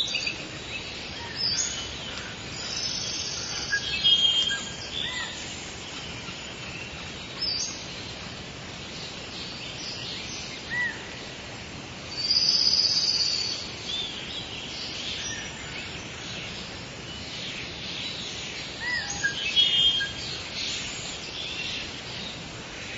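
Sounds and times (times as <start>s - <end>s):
bird calls and chirps: 0.0s - 11.5s, 12.1s - 22.9s
forest background hiss: 0.0s - 22.9s.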